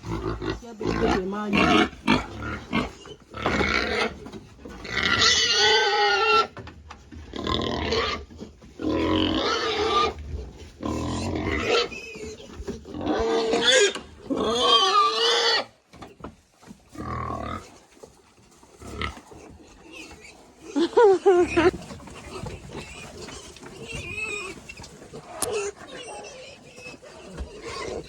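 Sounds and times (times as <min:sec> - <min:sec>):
pigs crying loudly: 0:00.0 - 0:06.6, 0:07.3 - 0:15.9, 0:16.9 - 0:17.8, 0:18.8 - 0:28.0.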